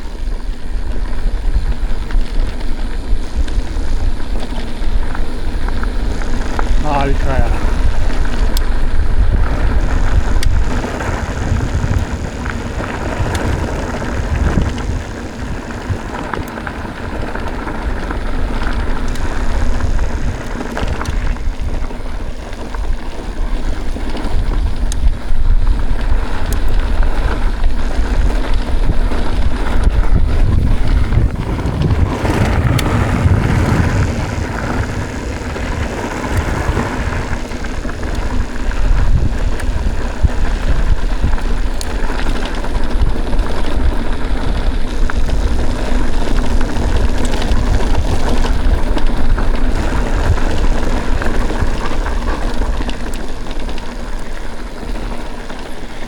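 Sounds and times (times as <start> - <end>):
tyres rumbling on dirt: 0.0 - 56.0
wind buffeting microphone: 0.0 - 56.0
bike clicks and knocks: 2.0 - 56.0.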